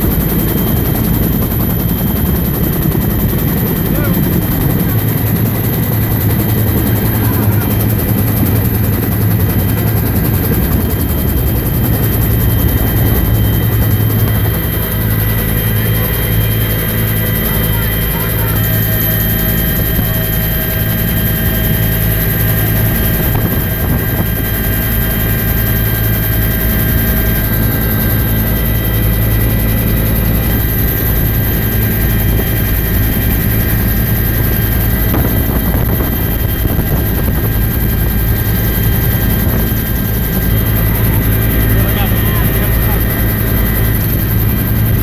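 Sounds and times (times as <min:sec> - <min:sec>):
helicopter rotor drone: 0:00.0 - 0:45.0
turbine whine: 0:00.0 - 0:45.0.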